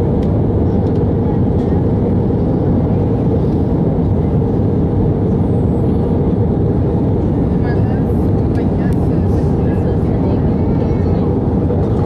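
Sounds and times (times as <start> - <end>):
airplane cabin engine rush: 0.0 - 12.0.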